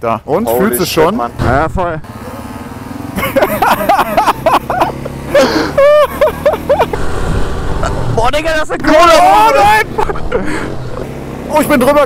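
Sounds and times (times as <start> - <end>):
voices: 0.0 - 7.0, 7.8 - 12.0
motorcycle engine running: 1.5 - 12.0.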